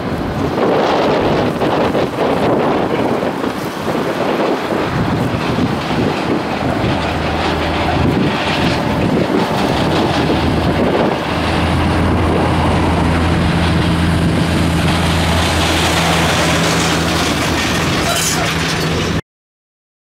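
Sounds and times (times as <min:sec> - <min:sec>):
jet engines at takeoff: 0:00.0 - 0:19.2.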